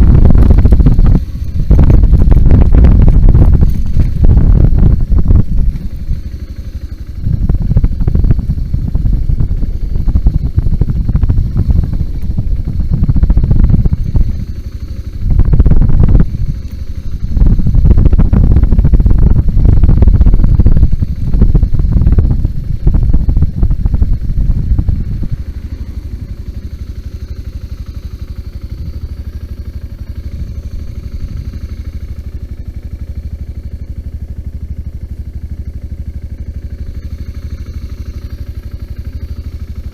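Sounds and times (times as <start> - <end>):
motorcycle engine riding off-road: 0.0 - 39.9.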